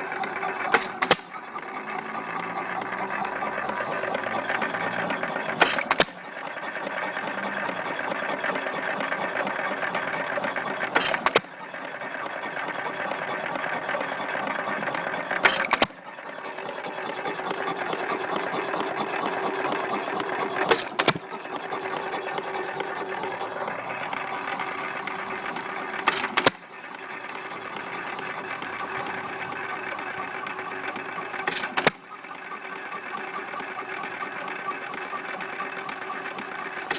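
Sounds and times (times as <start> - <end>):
engine mechanical clatter: 0.0 - 36.9.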